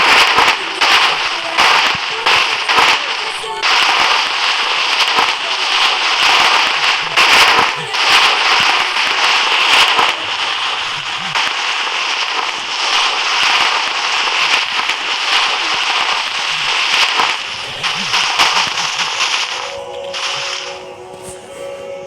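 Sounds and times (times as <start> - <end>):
slime crackling and popping: 0.0 - 20.9.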